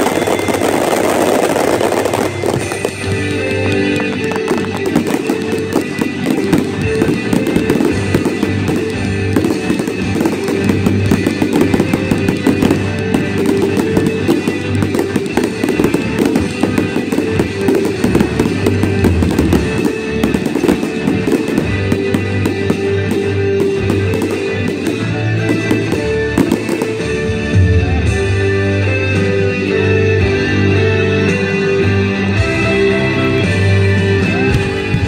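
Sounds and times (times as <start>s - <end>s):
fireworks bursting and crackling: 0.0s - 35.0s
loud music: 0.0s - 35.0s.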